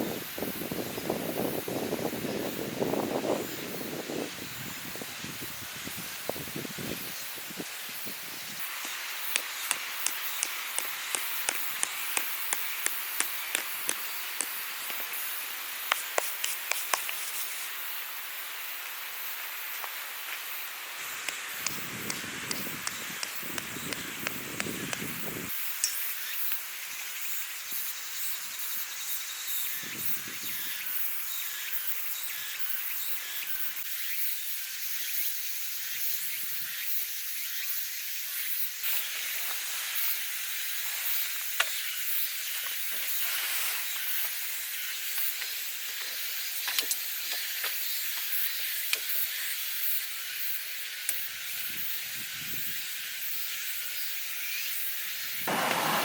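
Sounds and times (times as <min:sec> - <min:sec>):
steady hiss: 0:00.0 - 0:32.8, 0:33.5 - 0:56.0.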